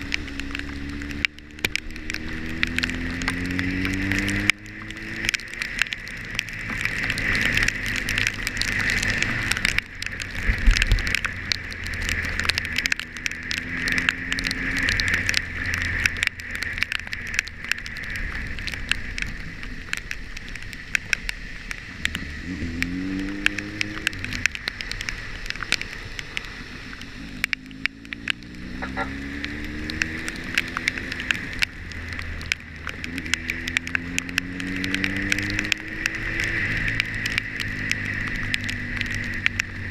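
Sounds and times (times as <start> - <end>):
vehicle engine accelerating: 0.0 - 16.8, 21.7 - 39.9
rain ticking on camera: 0.0 - 39.9
wind and road noise: 0.0 - 39.9.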